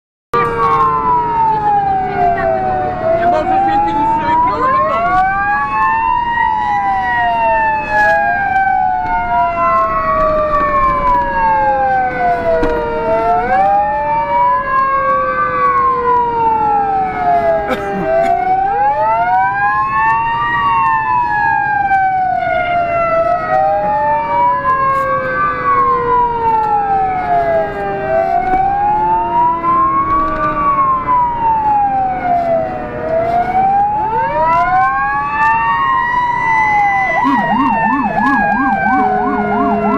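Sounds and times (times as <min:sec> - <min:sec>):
truck engine and road noise: 0:00.3 - 0:39.9
fire engine siren: 0:00.4 - 0:39.9.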